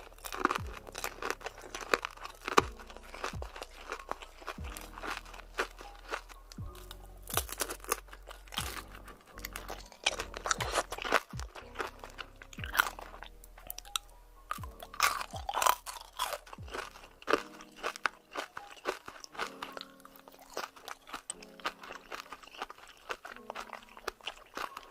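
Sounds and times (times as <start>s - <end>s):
background music with low notes: 0.0s - 24.9s
crunching and chewing fruit: 0.0s - 24.9s.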